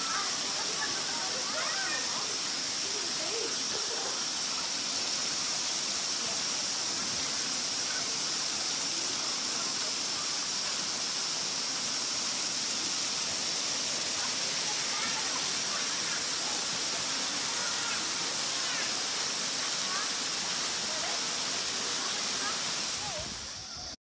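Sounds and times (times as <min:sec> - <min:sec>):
high-pitched hiss: 0:00.0 - 0:24.0
waterfall rushing into pool: 0:00.0 - 0:24.0.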